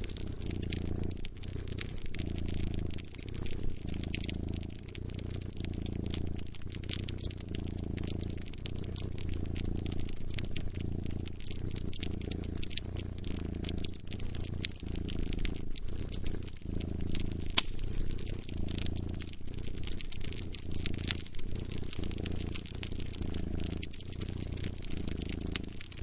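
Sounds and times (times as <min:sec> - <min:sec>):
cat purring: 0:00.0 - 0:26.0
fire crackling and popping: 0:00.0 - 0:26.0.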